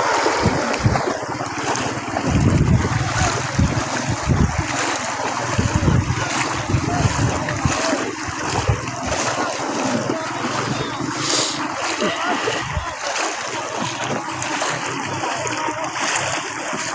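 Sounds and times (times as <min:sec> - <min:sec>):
floodwater rushing: 0:00.0 - 0:16.9
wind buffeting microphone: 0:00.0 - 0:16.9.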